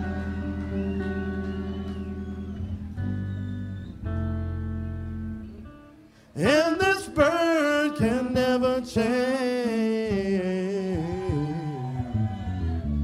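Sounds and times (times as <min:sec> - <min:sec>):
guitar lead line with vibrato: 0:00.0 - 0:13.0
live band with guitar: 0:00.0 - 0:13.0.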